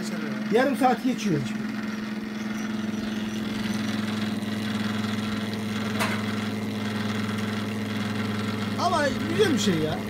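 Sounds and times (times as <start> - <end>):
cream separator humming: 0.0 - 10.0.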